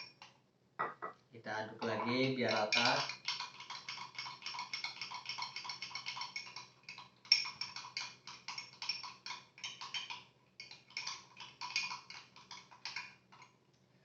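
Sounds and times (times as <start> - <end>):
spoon clinking against glass: 1.8 - 13.2.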